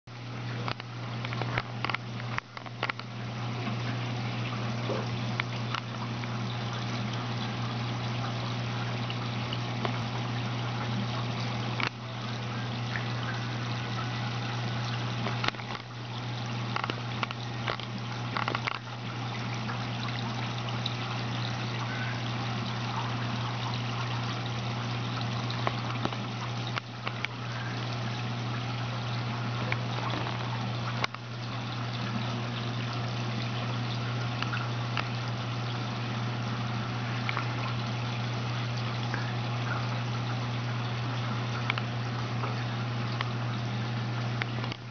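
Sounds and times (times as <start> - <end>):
low motor hum: 0.1 - 44.9
water trickling: 0.1 - 44.9.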